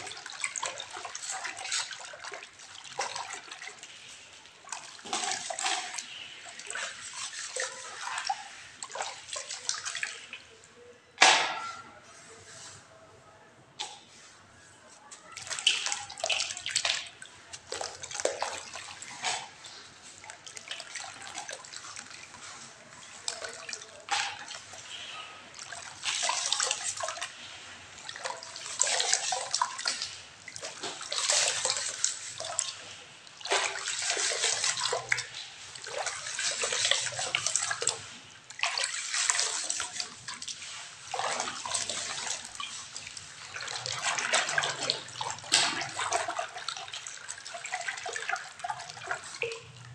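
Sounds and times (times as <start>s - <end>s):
shells and toys splashing in water: 0.0s - 10.5s, 15.3s - 49.9s.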